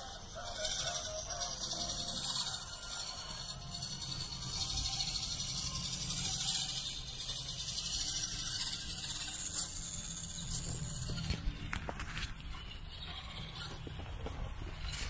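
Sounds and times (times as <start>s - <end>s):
electric motor drone: 0.0s - 15.0s.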